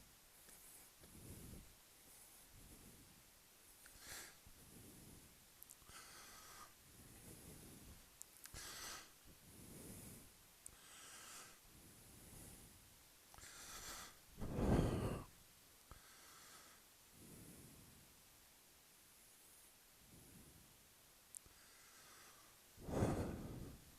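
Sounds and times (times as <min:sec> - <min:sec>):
person breathing: 0:00.5 - 0:03.2, 0:03.8 - 0:18.0, 0:21.4 - 0:23.9.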